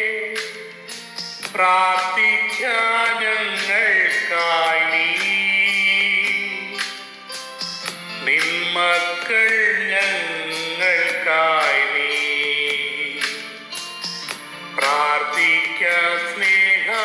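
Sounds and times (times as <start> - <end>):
instrumental accompaniment: 0.0 - 17.0
person singing: 0.0 - 17.0
percussion beat: 0.3 - 17.0.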